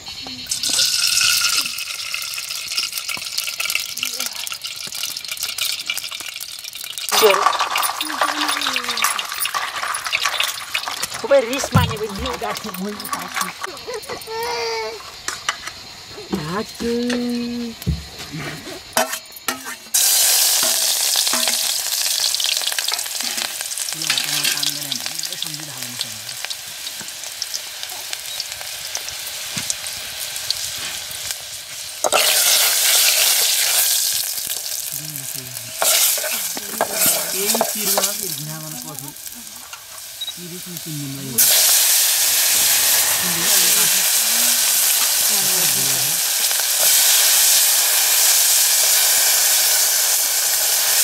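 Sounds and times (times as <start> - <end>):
hot oil sizzling in a pot: 0.0 - 51.0.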